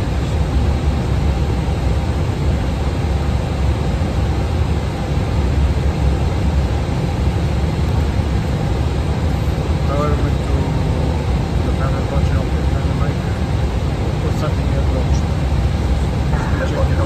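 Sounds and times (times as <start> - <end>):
airplane cockpit rumble: 0.0 - 17.0.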